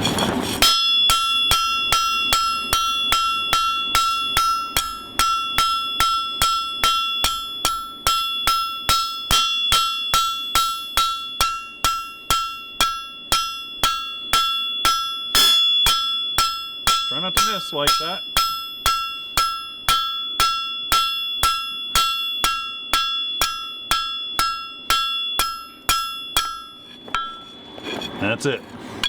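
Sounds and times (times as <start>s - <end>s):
hammer striking steel on anvil: 0.6s - 27.6s.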